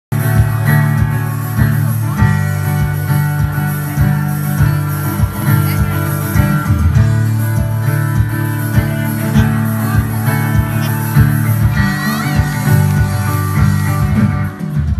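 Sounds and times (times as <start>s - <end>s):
acoustic guitar strumming: 0.1s - 14.9s
steady drum beat: 0.1s - 14.9s
sustained bass notes: 0.1s - 14.9s.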